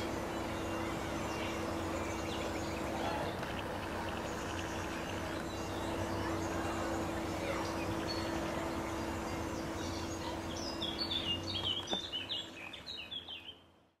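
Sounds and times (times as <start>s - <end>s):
background rumble with low hum: 0.0s - 14.0s
songbird singing: 0.0s - 14.0s.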